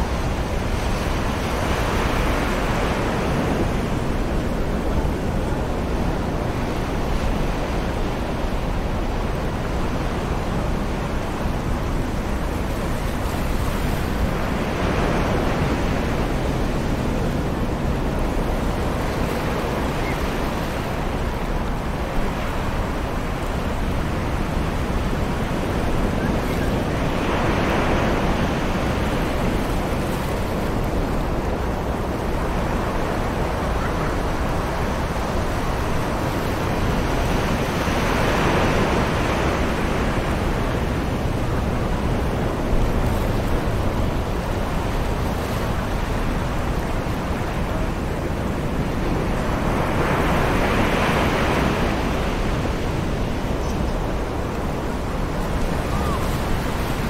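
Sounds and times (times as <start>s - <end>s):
distant ocean surf: 0.0s - 57.0s.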